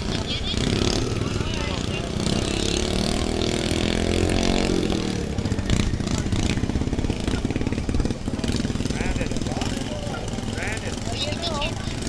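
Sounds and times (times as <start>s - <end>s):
lawn tractor engines running hard: 0.0s - 12.0s.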